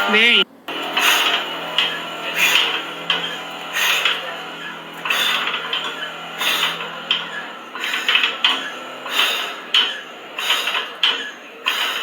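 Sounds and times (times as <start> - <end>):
hard objects clattering: 0.7 - 12.0.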